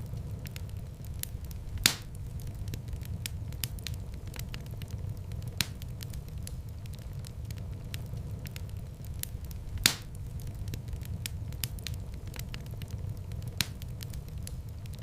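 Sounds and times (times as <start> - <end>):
sharp fire pops: 0.0 - 15.0
wood fire crackling: 0.0 - 15.0.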